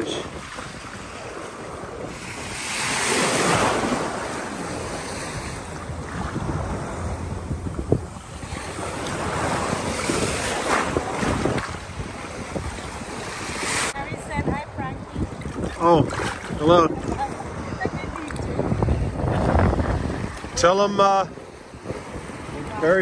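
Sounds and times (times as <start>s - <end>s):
small waves washing in: 0.0s - 23.0s
wind rumble on microphone: 0.0s - 23.0s.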